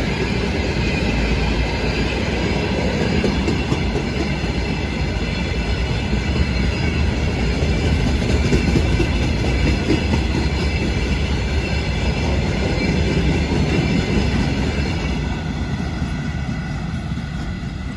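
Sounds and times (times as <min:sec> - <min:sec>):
train wheels rumbling on rail: 0:00.0 - 0:17.9.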